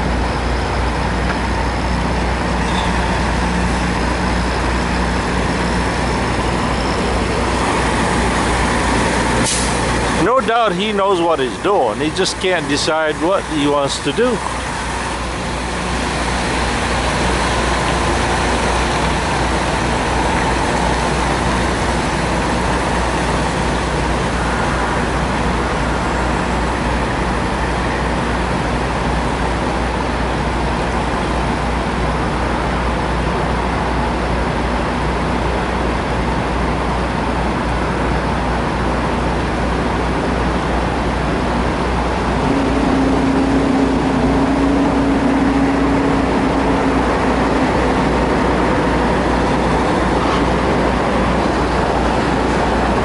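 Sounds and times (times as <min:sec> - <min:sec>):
diesel truck engines running: 0:00.0 - 0:53.0
steady drone: 0:00.0 - 0:53.0.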